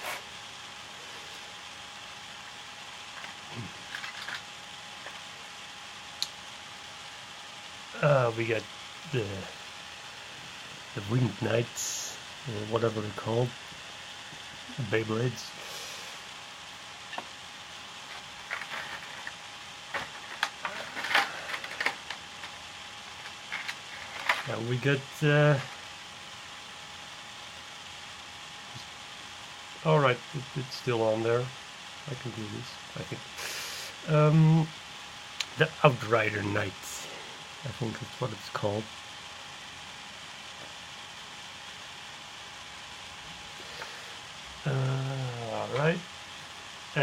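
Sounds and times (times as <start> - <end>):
steady recording hiss: 0.0 - 47.0.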